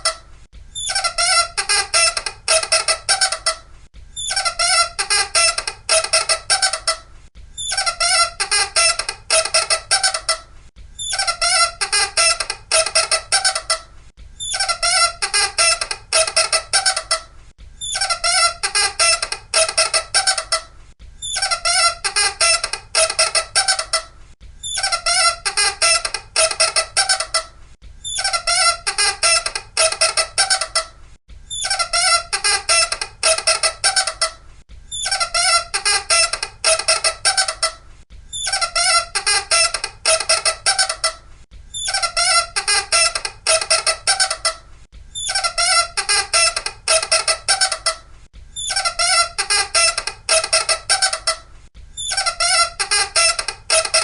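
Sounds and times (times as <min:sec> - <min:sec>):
shrill squeaking: 0:00.8 - 0:03.6, 0:04.2 - 0:07.0, 0:07.6 - 0:30.9, 0:31.5 - 0:44.6, 0:45.2 - 0:48.0, 0:48.6 - 0:51.4, 0:52.0 - 0:54.0.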